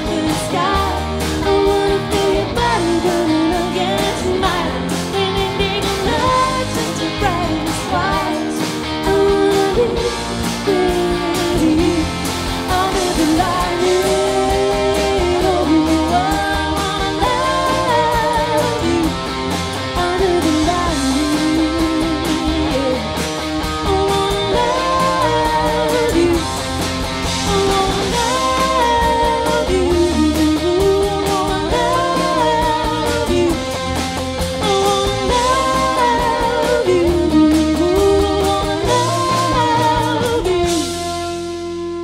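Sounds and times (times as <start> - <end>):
woman singing: 0.0 - 41.6
drum kit with cymbals: 0.0 - 42.0
electric bass: 0.0 - 42.0.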